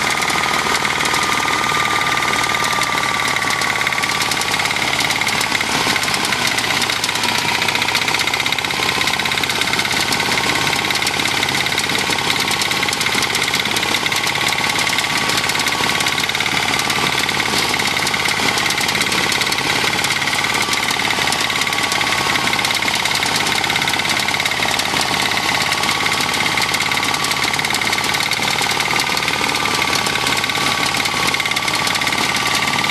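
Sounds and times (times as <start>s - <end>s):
cutter bar cutting crop: 0.0s - 32.9s
reaper engine running: 0.0s - 32.9s.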